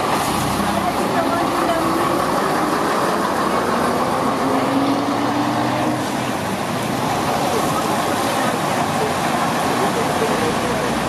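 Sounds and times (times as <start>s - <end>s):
bus diesel engine passing: 0.0s - 11.0s
road and traffic noise: 0.0s - 11.0s.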